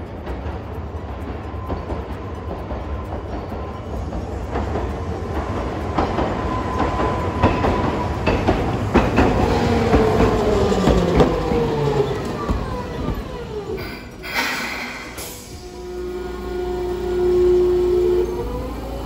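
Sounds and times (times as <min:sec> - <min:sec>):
tram motor whine: 0:00.0 - 0:19.0
tram wheels rumbling on rails: 0:00.0 - 0:19.0.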